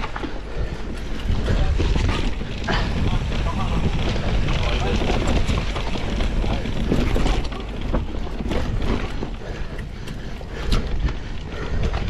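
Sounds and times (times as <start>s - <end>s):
bike chain rattling: 0.0s - 12.0s
tyres rolling over soil: 0.0s - 12.0s.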